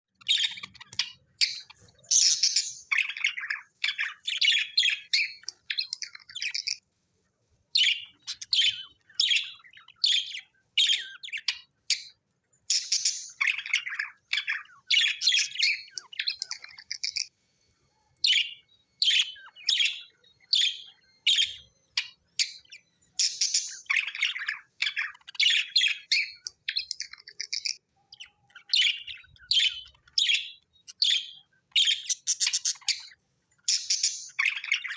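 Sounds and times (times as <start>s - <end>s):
budgerigars chirping: 0.2s - 6.8s, 7.8s - 17.4s, 18.2s - 34.9s.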